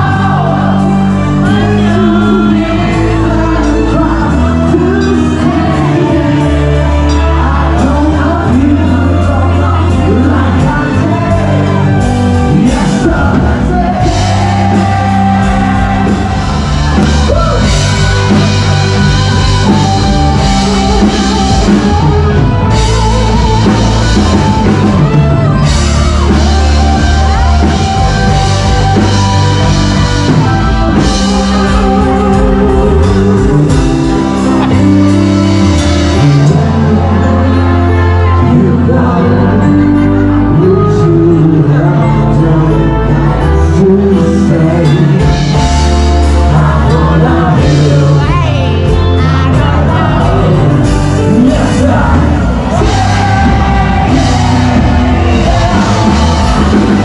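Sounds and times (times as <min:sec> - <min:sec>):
person singing: 0:00.0 - 0:57.0
rock band playing: 0:00.0 - 0:57.0.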